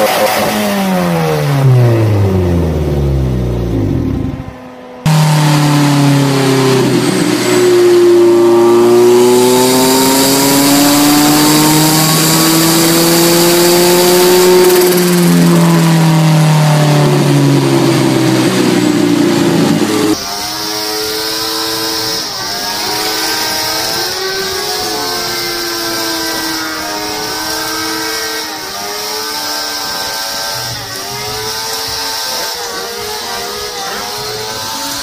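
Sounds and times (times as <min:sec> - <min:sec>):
motorcycle engine revving: 0:00.0 - 0:35.0
race car engine at high revs: 0:00.0 - 0:35.0.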